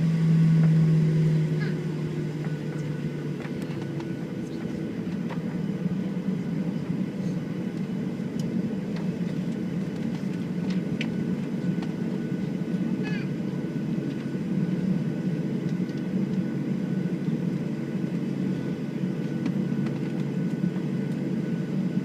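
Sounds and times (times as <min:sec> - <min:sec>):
airplane engine drone in cabin: 0:00.0 - 0:22.0.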